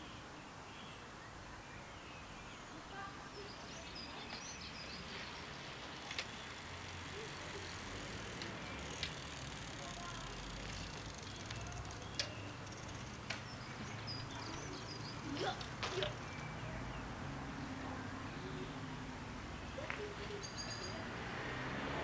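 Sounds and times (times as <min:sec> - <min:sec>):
distant rumble: 0:03.6 - 0:22.0.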